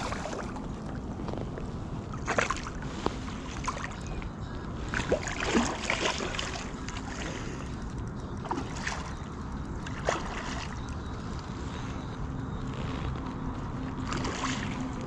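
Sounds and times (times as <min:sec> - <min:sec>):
water lapping: 0:00.0 - 0:15.0
wind: 0:00.0 - 0:15.0.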